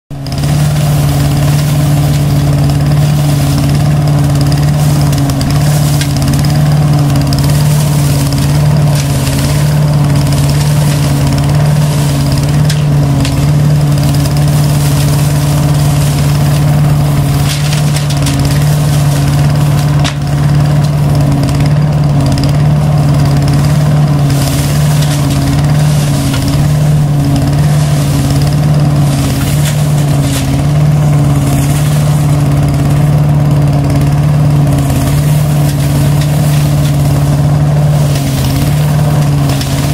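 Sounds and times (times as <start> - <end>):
garden tractor engine drone: 0.0 - 39.9
leaves sucked into vacuum hose: 0.2 - 21.4, 22.8 - 39.9.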